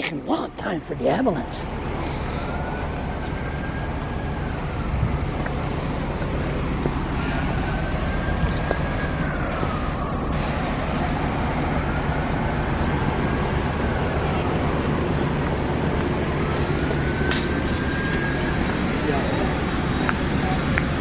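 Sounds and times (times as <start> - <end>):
emergency siren wailing: 0.0 - 21.0
large engine idling: 0.5 - 21.0.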